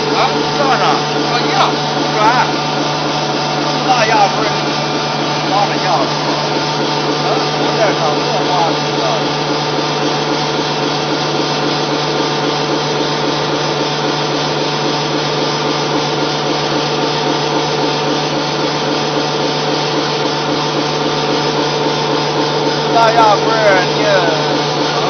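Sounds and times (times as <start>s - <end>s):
pellet mill motor humming: 0.0s - 25.0s.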